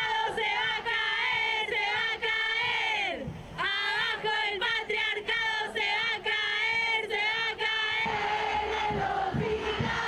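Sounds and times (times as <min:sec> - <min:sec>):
women singing a chant: 0:00.0 - 0:10.0.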